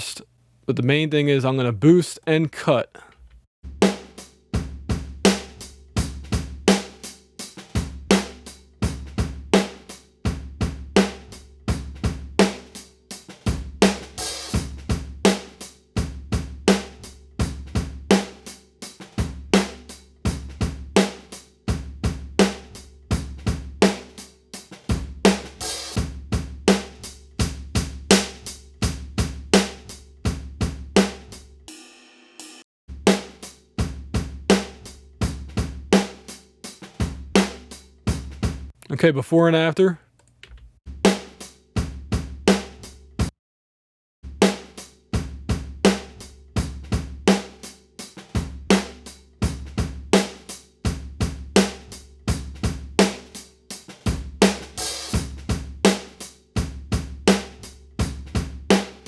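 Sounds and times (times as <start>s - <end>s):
drum kit groove: 1.1s - 39.8s, 40.9s - 43.3s, 44.3s - 59.0s.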